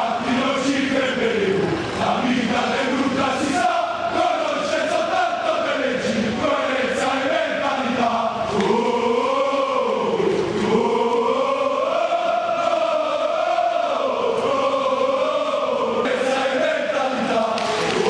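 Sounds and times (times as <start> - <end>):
crowd chanting in unison: 0.0 - 18.0.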